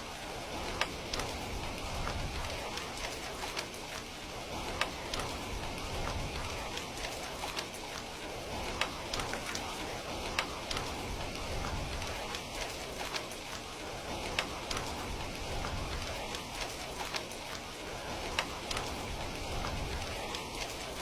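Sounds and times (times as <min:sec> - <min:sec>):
steady rain falling: 0:00.0 - 0:21.0
wood fire crackling and popping: 0:00.2 - 0:21.0.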